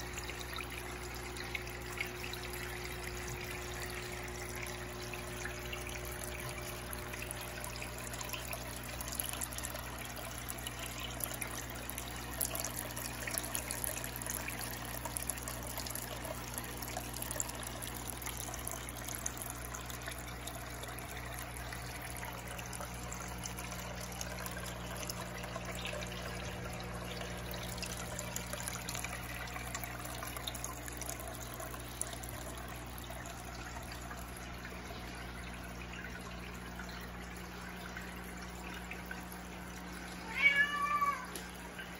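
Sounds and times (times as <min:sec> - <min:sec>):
aquarium water trickling: 0:00.0 - 0:41.9
crackling drips: 0:00.0 - 0:41.9.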